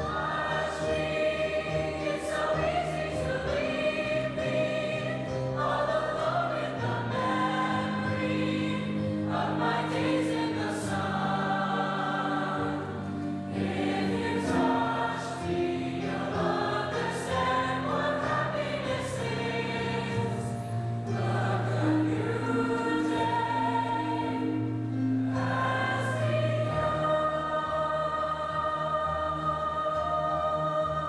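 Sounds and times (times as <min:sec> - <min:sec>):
choir singing with accompaniment: 0:00.0 - 0:31.0.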